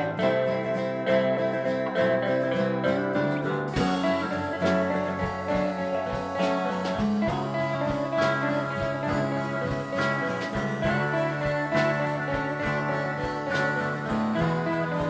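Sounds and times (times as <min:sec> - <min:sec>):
instrumental music with plucked guitar: 0:00.0 - 0:15.0.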